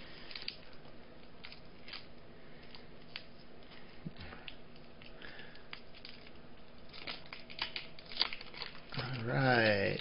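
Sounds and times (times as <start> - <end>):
cellophane wrapper crinkling: 0.0 - 3.9, 4.7 - 10.0.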